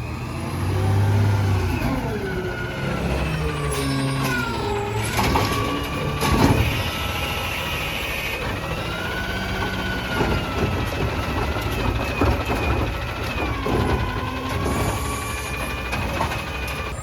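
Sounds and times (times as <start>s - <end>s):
garbage truck engine whining: 0.0s - 17.0s.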